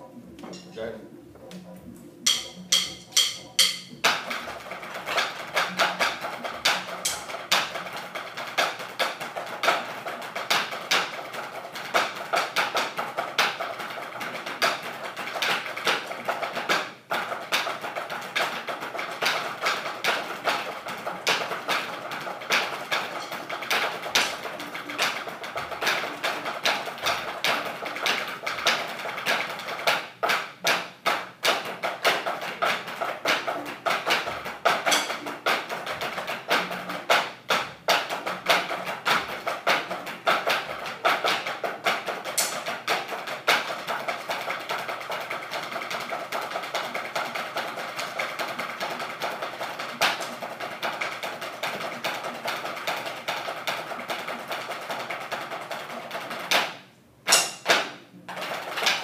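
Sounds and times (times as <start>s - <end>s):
drumsticks tapping practice pads: 0.0s - 59.0s.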